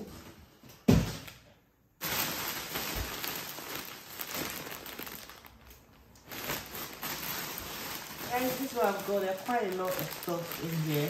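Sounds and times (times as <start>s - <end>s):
plastic bag crinkling: 2.0s - 11.0s.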